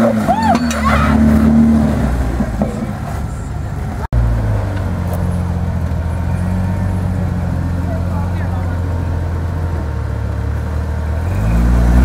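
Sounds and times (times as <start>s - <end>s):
engine running at low revs: 0.0s - 12.0s
off-road engines working: 0.0s - 12.0s.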